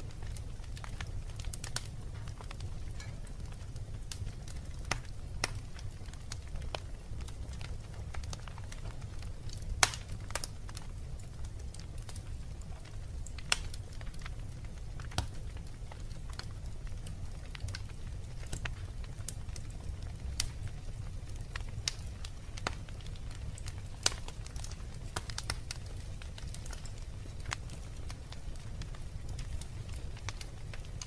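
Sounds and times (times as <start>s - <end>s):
fire flames rumbling: 0.0s - 31.0s
wood fire crackling and popping: 0.0s - 31.0s.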